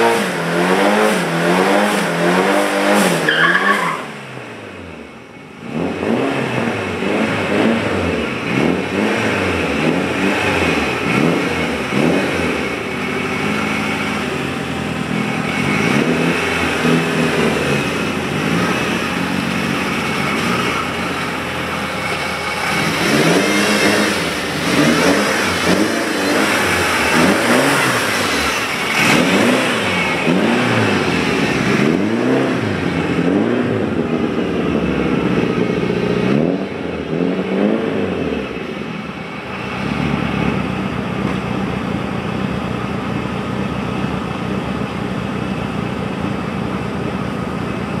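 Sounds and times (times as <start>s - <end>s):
car engine revving hard: 0.0s - 47.9s.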